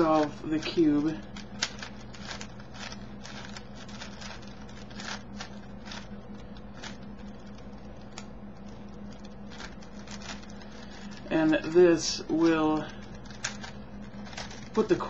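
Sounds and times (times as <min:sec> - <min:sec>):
puzzle cube clicking and rattling: 0:00.0 - 0:11.8, 0:12.7 - 0:15.0
steady low hum: 0:00.0 - 0:15.0.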